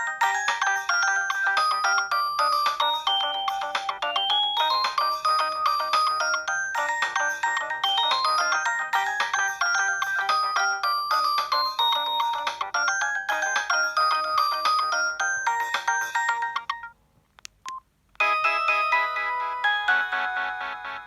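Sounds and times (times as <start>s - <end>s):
mobile phone ringtone melody: 0.0s - 17.0s, 18.2s - 21.0s.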